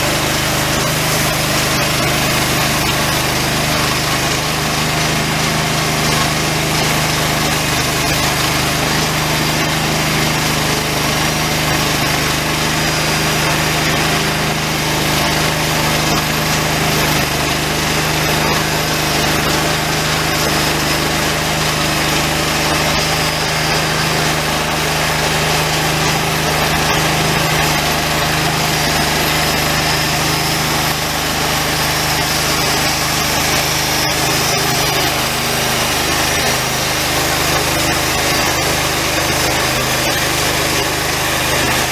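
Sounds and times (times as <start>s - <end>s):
saw blade cutting log: 0.0s - 41.9s.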